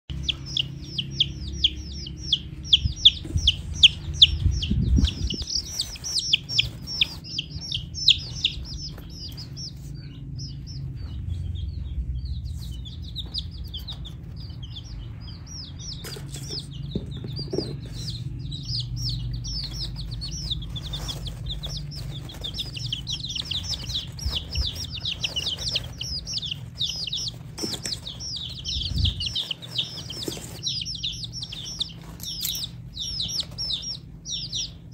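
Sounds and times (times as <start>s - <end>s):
baby chicks peeping: 0.0s - 34.9s
steady low rumble: 0.1s - 34.9s.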